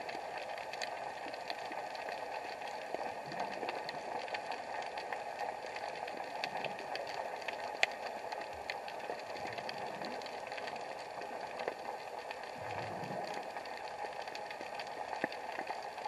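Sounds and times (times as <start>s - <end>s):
faint underwater clicks and crackles: 0.0s - 16.0s
muffled underwater hiss: 0.0s - 16.0s.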